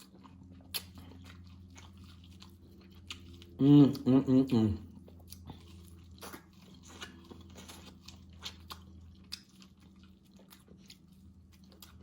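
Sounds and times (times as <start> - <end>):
low steady hum: 0.0 - 12.0
person chewing food: 0.0 - 12.0.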